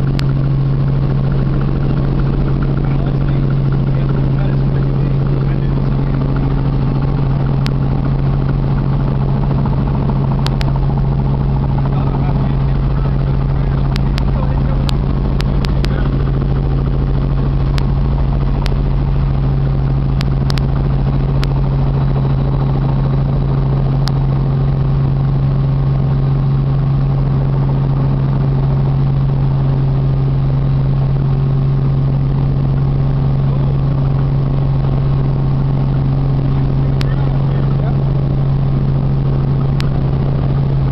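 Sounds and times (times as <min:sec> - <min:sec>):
helicopter drone from cabin: 0:00.0 - 0:40.9.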